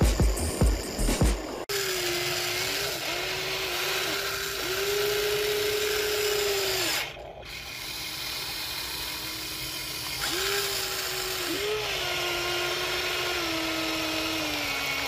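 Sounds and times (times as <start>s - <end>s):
toy excavator motors whining: 1.6s - 15.0s.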